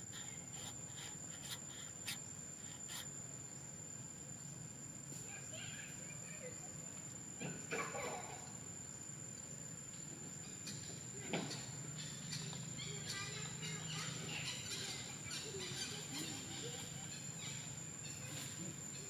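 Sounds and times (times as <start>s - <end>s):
high-pitched insect drone: 0.0s - 7.1s, 7.9s - 19.0s.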